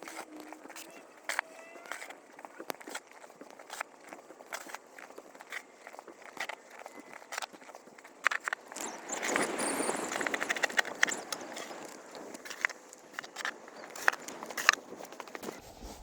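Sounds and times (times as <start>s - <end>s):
crunching and scraping in snow: 0.0s - 16.0s.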